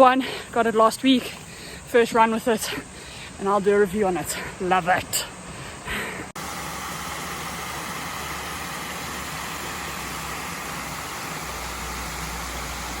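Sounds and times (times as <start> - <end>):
steady hiss: 0.5 - 13.0.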